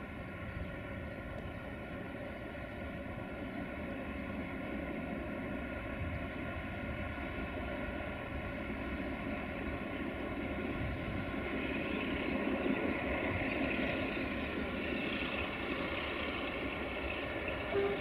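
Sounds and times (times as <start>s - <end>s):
distant diesel locomotive drone: 0.0s - 18.0s.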